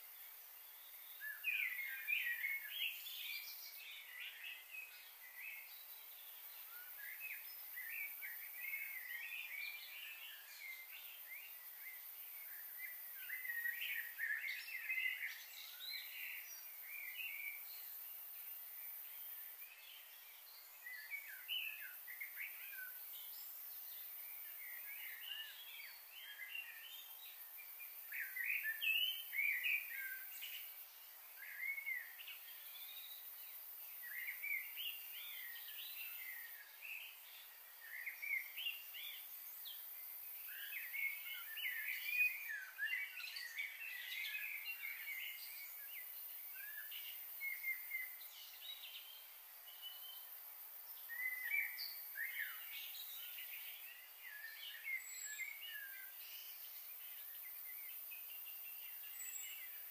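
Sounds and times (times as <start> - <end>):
faint steady high hiss: 0.0 - 59.9.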